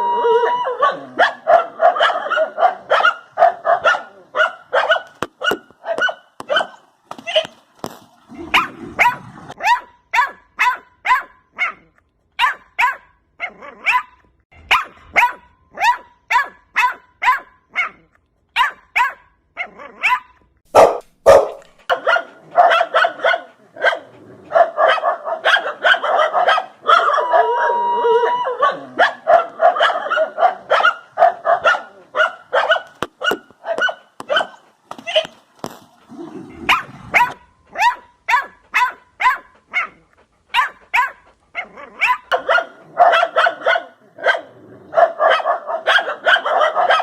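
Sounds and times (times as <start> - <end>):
dog barking: 0.4 - 7.5, 8.4 - 35.4, 36.6 - 47.0.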